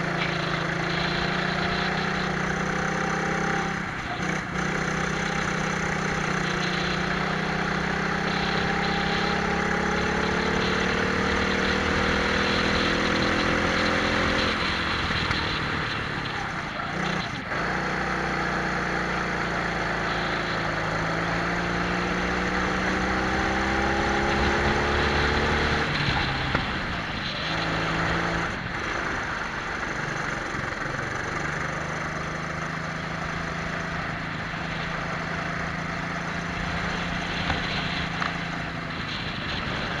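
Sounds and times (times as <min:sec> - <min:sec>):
kart engines accelerating: 0:00.0 - 0:40.0.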